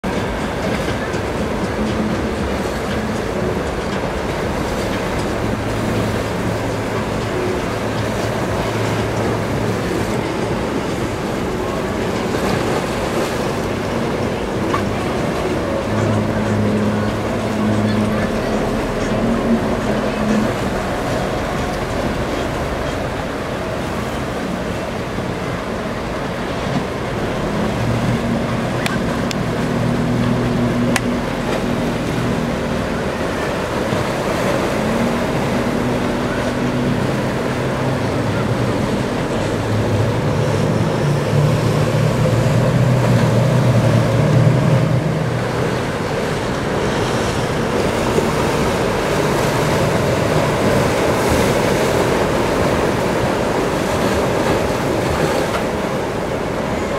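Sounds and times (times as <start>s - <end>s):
hull spray and breaking waves: 0.0s - 56.9s
motorboat engines running: 0.0s - 56.9s.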